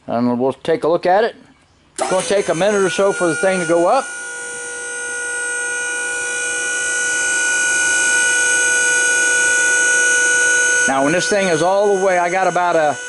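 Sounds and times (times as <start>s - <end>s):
hydraulic pump whine: 2.0s - 13.0s.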